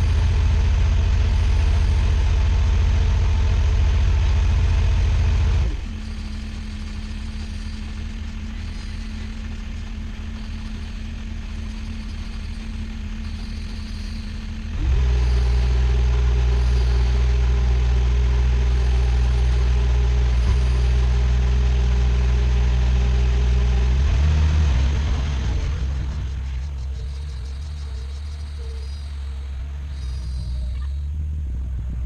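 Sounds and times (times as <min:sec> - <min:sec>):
skid steer engine revving: 0:00.0 - 0:32.0.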